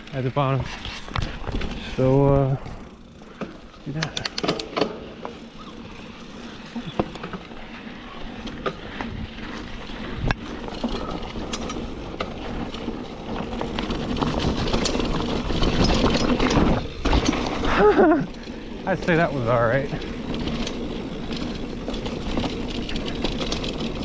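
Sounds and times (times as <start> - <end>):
bike rattling: 0.0 - 24.0
bike tyres rolling: 0.0 - 24.0.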